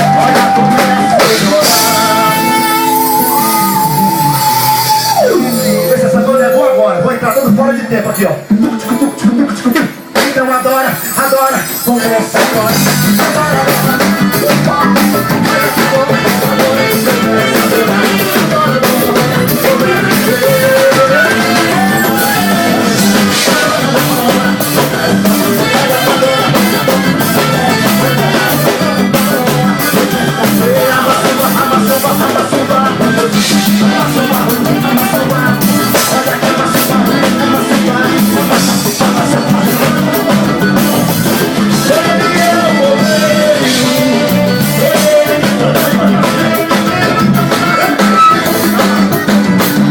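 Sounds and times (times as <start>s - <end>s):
drum kit beat: 0.0s - 49.9s
live band playing: 0.0s - 49.9s.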